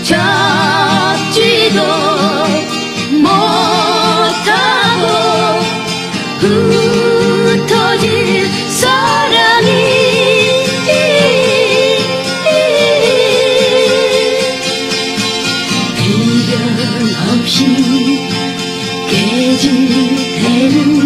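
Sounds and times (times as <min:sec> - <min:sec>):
instrumental accompaniment: 0:00.0 - 0:21.0
woman singing with vibrato: 0:00.0 - 0:21.0.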